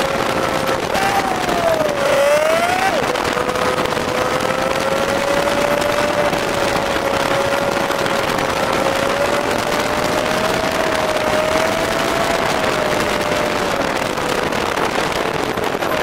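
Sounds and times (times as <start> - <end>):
dune buggy engine revving: 0.0 - 16.0
heavy wind noise: 0.0 - 16.0
road noise: 0.0 - 16.0.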